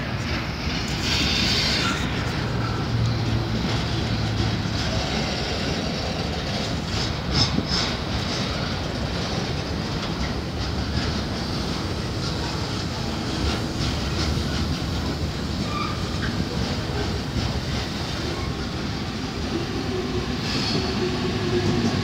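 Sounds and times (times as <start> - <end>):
clickety-clack over rail joints: 0.0 - 22.0
train wheels rumbling on rails: 0.0 - 22.0.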